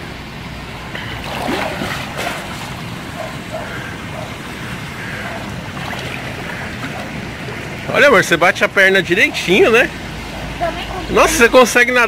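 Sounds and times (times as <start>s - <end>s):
water splashing from swimming: 0.7s - 11.7s.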